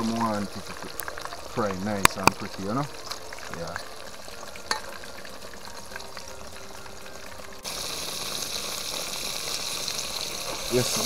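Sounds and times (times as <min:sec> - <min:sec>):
fish deep-frying sizzle: 0:00.0 - 0:11.0.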